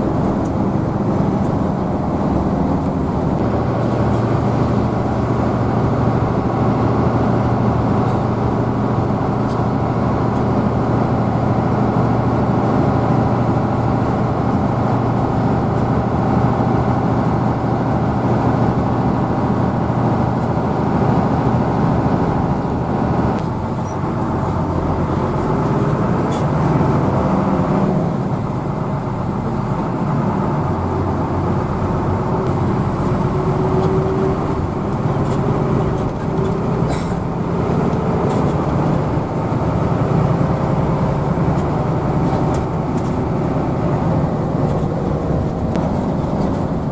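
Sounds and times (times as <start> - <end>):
bus diesel engine running: 0.0 - 46.9
road noise: 0.0 - 46.9.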